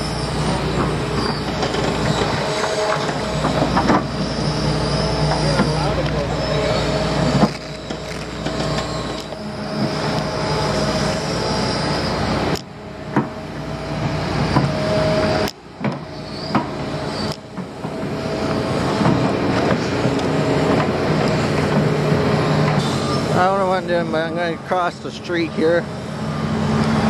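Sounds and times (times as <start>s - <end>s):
high metallic squeal: 0.0s - 12.6s, 16.1s - 27.0s
construction machinery engine drone: 0.0s - 27.0s.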